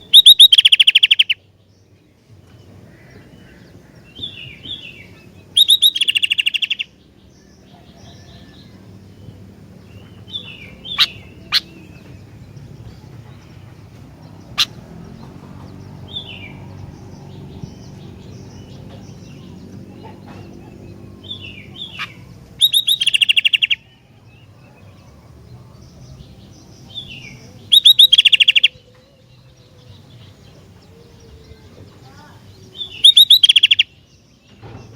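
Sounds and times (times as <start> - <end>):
bulbul chattering song: 0.0 - 2.0, 2.6 - 34.6.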